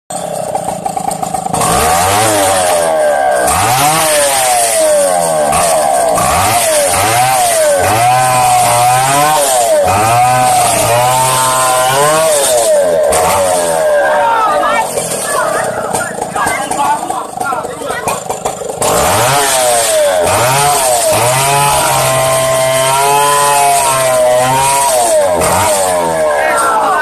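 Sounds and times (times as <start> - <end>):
chainsaw cutting wood: 0.1 - 27.0.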